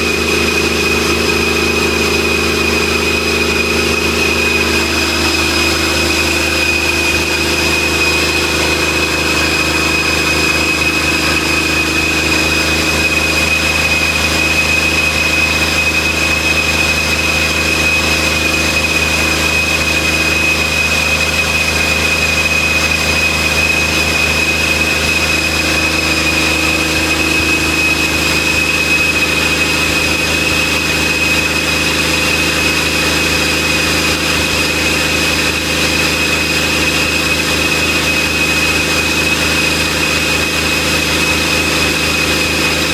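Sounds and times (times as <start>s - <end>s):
diesel engine running: 0.0s - 42.9s
high whine: 0.0s - 42.9s.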